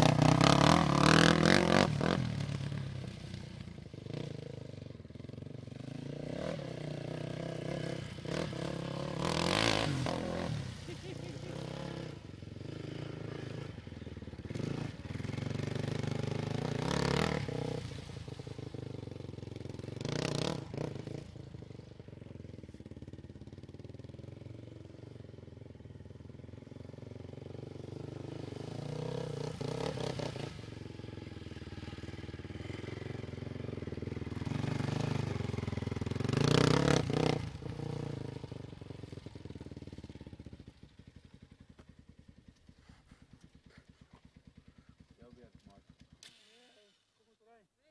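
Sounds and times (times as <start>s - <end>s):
quad bike engine revving: 0.0s - 41.2s.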